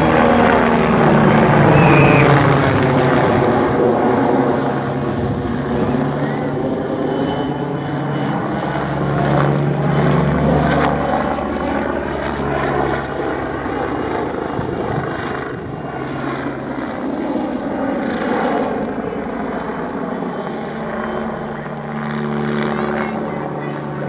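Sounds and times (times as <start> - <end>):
helicopter flying overhead: 0.0 - 24.0.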